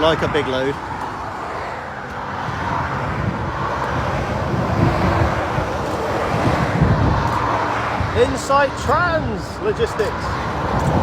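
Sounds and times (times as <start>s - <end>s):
motorway traffic tyre rush: 0.0s - 11.0s.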